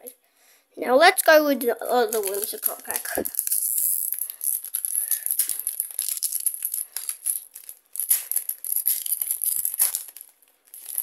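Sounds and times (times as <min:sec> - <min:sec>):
foil wrapper crinkling and tearing: 0:02.1 - 0:11.0.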